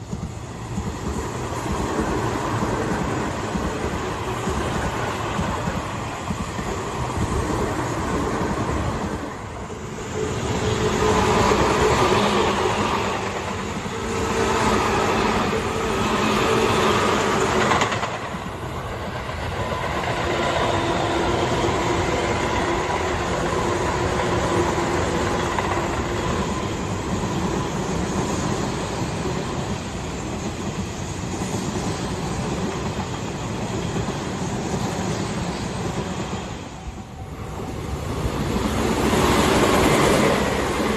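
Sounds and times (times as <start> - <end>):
electric train wheels clattering: 0.0 - 40.9.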